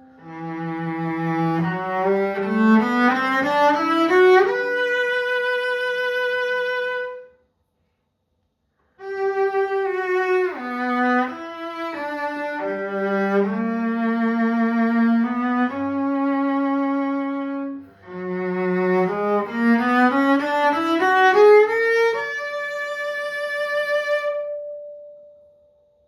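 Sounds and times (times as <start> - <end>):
bowed cello: 0.0 - 7.3, 9.0 - 24.9.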